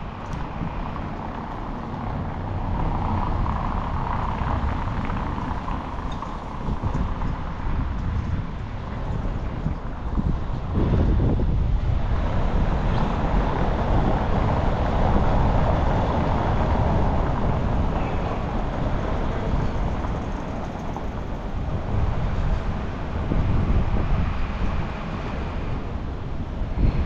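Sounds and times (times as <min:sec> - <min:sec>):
city street noise: 0:00.0 - 0:27.0.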